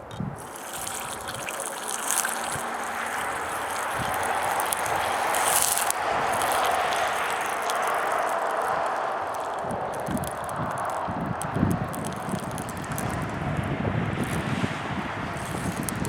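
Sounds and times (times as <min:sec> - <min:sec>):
hot blade sizzling in oil: 0:00.4 - 0:13.3.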